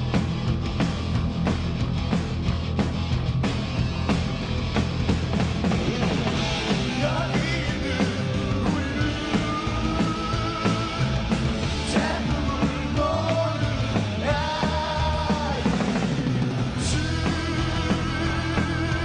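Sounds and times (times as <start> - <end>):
distorted electric guitar: 0.0 - 19.0
drums: 0.0 - 19.0.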